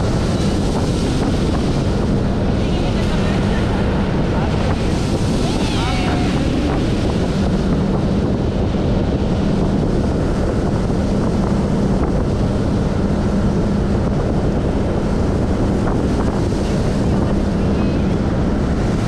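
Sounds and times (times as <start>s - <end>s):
outboard motor humming: 0.0s - 19.0s
water rushing past hull: 0.0s - 19.0s
wind buffeting microphone: 0.0s - 19.0s.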